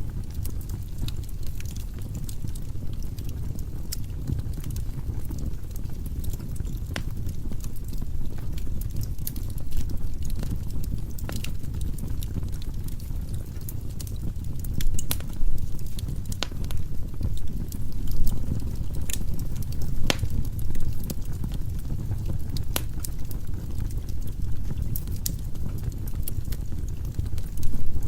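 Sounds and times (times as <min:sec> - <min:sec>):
logs crackling and popping: 0:00.0 - 0:28.0
low rumble of flames: 0:00.0 - 0:28.0.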